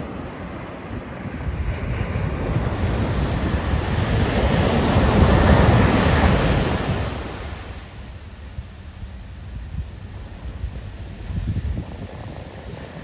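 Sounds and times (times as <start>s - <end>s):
wave crashing on sand beach: 0.0s - 13.0s
wind rumble on microphone: 0.0s - 13.0s.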